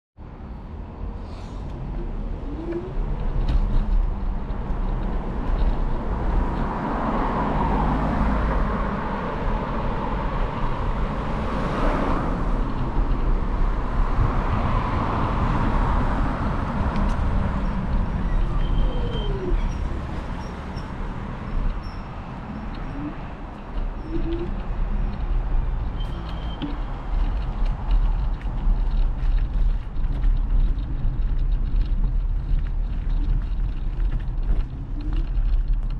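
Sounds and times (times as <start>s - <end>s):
electric scooter rolling rumble: 0.2s - 35.9s
wind noise: 0.4s - 35.9s.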